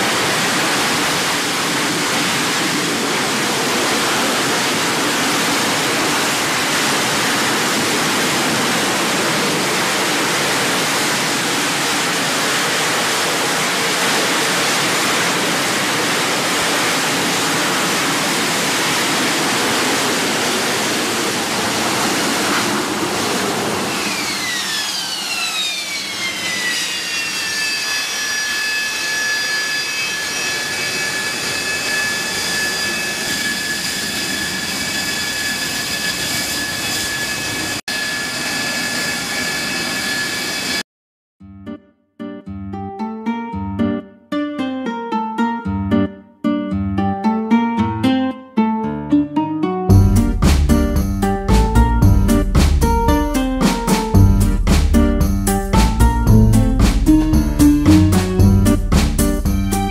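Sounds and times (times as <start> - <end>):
jet engine rushing: 0.0 - 40.8, 49.9 - 59.9
jet engine whine: 0.0 - 40.8, 50.1 - 59.9.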